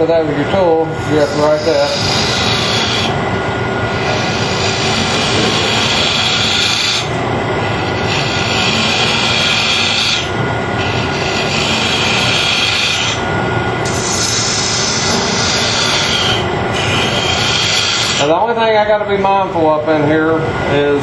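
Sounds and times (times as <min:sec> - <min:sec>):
wood lathe humming: 0:00.0 - 0:18.5
lathe tool shaving wood: 0:01.0 - 0:03.3, 0:03.9 - 0:18.4.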